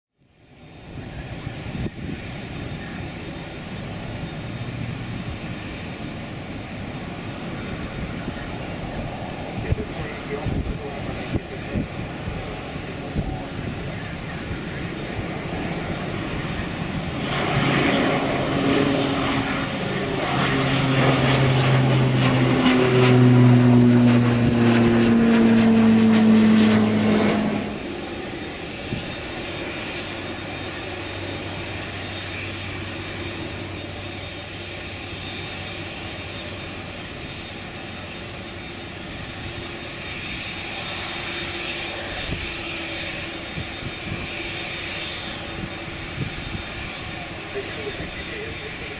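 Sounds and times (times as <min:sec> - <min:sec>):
jet engines whining past: 0:00.2 - 0:48.9
quieter jet rumble: 0:00.2 - 0:48.9.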